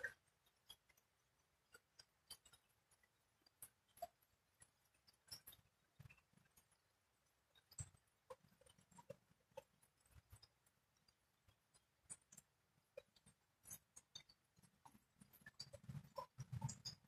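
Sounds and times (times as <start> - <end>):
faint small ticks and chirps: 0.0 - 17.0.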